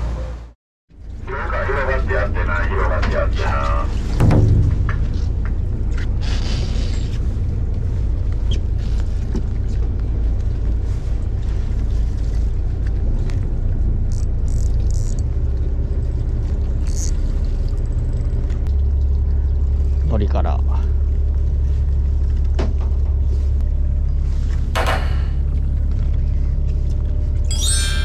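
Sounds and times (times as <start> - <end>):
boat engine low rumble: 0.0 - 28.0.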